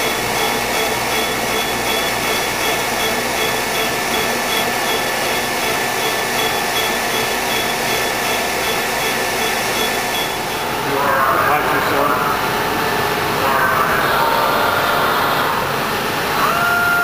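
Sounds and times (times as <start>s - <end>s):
lathe mechanical hum: 0.0s - 17.0s
pulsing high whine: 0.0s - 17.0s.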